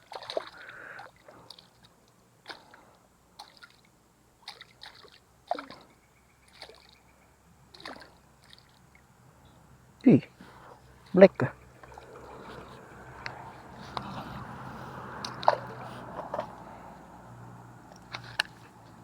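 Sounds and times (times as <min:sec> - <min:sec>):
faint water splashes: 0:00.0 - 0:19.0.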